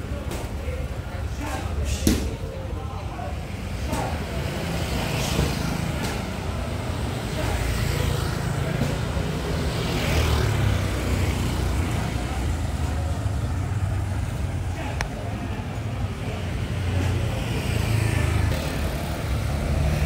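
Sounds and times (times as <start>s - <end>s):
road traffic rumble: 0.0s - 20.0s
vehicles passing: 0.0s - 20.0s.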